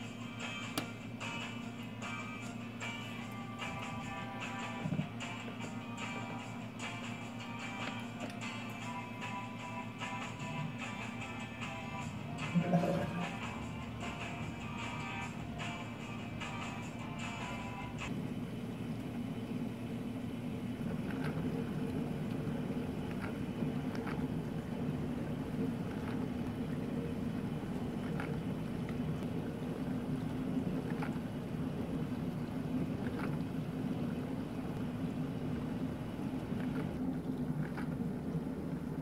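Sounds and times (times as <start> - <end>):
dishwasher humming: 0.0 - 39.0
water circulating: 0.0 - 39.0.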